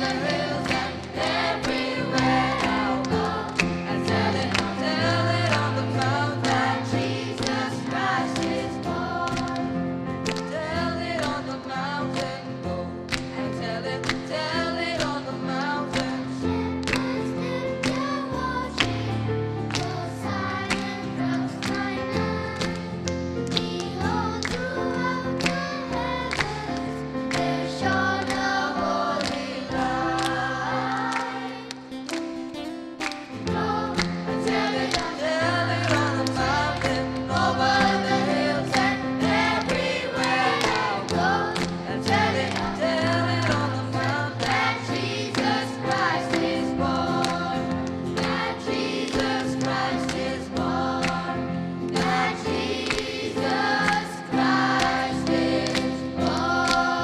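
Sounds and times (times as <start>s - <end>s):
choir singing a carol: 0.0s - 32.0s, 33.4s - 57.0s.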